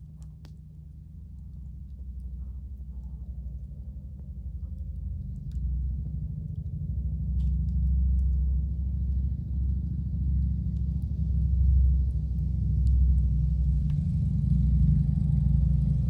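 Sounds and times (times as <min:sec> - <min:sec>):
campfire crackling pops: 0:00.1 - 0:06.2, 0:07.3 - 0:16.0.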